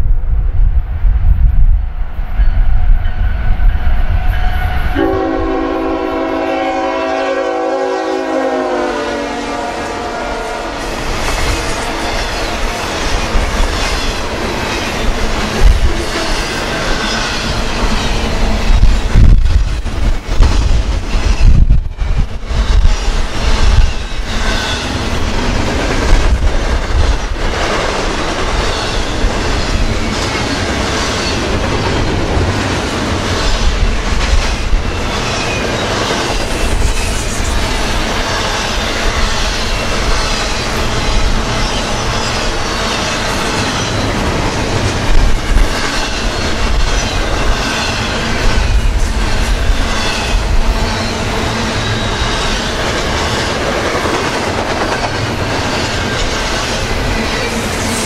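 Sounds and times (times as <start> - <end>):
freight train rolling past: 0.0 - 58.0
steel wheels rattling on rails: 10.6 - 58.0.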